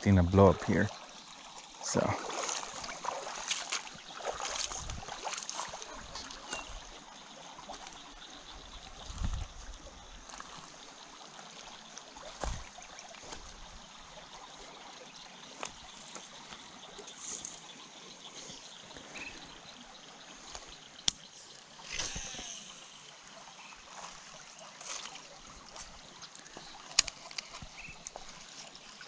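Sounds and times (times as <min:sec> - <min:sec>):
river trickling over stones: 0:00.0 - 0:29.0.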